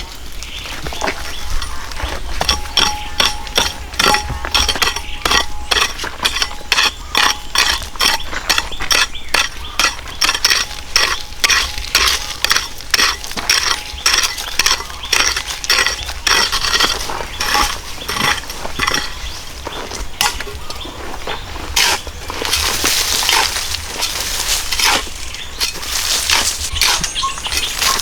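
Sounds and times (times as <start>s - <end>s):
hand tool striking stone: 0.8s - 20.9s, 21.6s - 28.0s.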